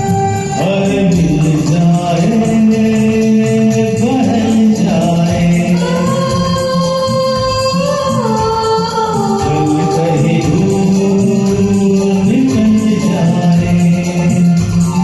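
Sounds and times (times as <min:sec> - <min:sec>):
karaoke backing track: 0:00.0 - 0:15.0
person singing: 0:00.0 - 0:15.0.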